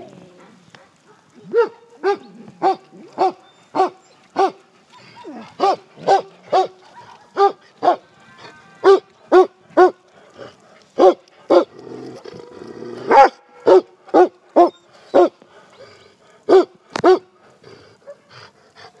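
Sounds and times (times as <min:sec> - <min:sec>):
dogs barking: 0:00.4 - 0:08.1, 0:08.8 - 0:19.0.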